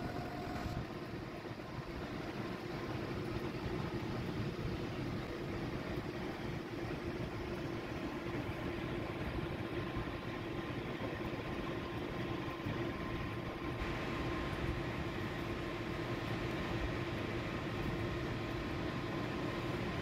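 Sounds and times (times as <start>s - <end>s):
faint steady whine: 0.0s - 20.0s
machinery humming: 0.0s - 20.0s.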